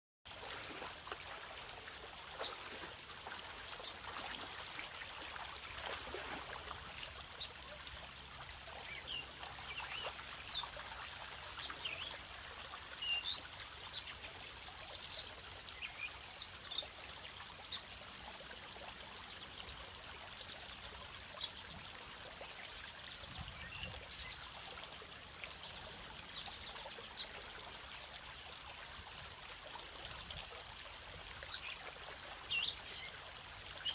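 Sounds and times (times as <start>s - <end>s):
creek flowing and trickling: 0.2s - 33.9s.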